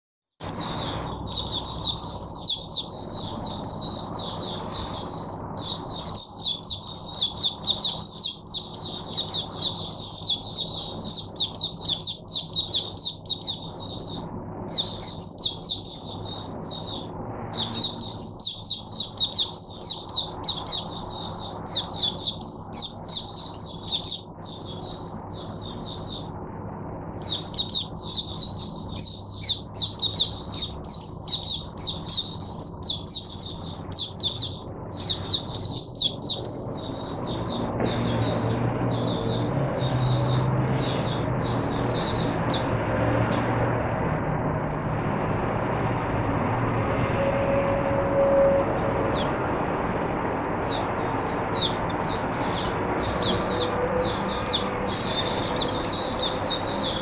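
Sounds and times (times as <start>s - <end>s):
bird twittering song: 0.4s - 26.4s, 27.1s - 43.6s, 50.6s - 57.0s.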